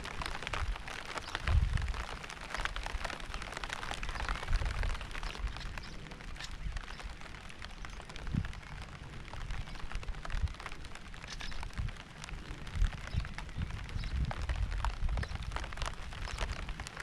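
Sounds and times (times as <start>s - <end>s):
low rain rumble: 0.0s - 17.0s
raindrops pattering: 0.0s - 17.0s.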